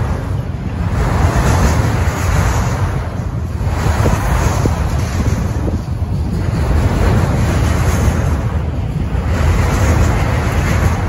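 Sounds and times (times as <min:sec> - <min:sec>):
steel wheels rumbling on rail: 0:00.0 - 0:11.0
wind buffeting microphone: 0:00.0 - 0:11.0.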